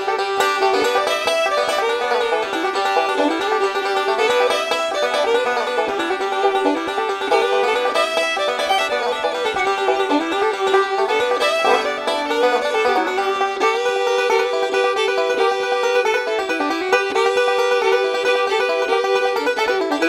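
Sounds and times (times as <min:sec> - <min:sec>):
quick plucked-string tune: 0:00.0 - 0:20.0.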